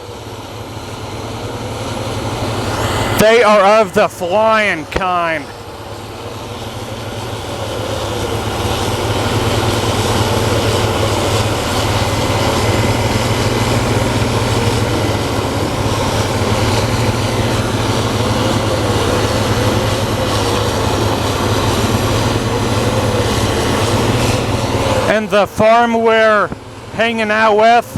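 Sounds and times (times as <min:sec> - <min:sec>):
combine harvester drone: 0:00.0 - 0:27.9.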